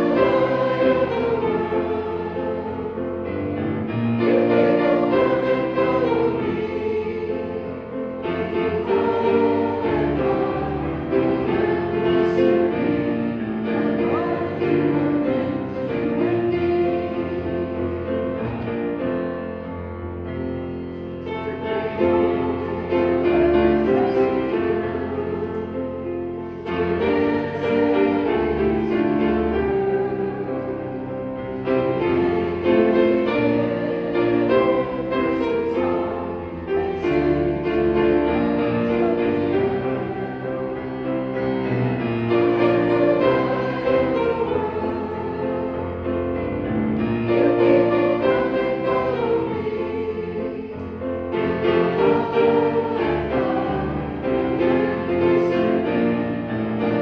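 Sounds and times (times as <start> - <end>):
congregation singing a hymn: 0.0 - 57.0
grand piano: 0.0 - 57.0.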